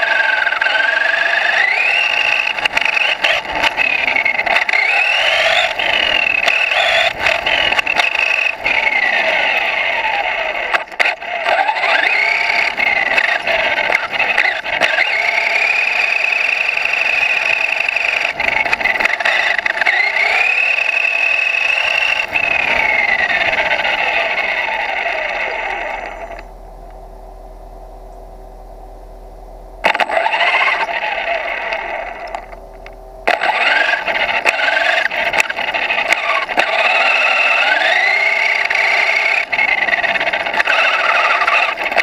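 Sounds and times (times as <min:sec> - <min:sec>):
rc car motor whining: 0:00.0 - 0:26.5, 0:29.8 - 0:42.0
tyre road noise: 0:00.0 - 0:42.0.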